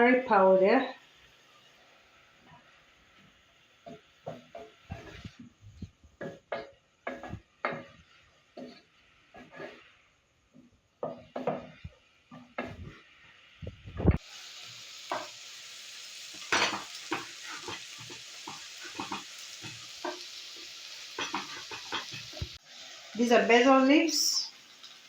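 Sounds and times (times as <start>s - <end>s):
food sizzling in hot oil: 0.0s - 10.4s, 11.0s - 25.0s.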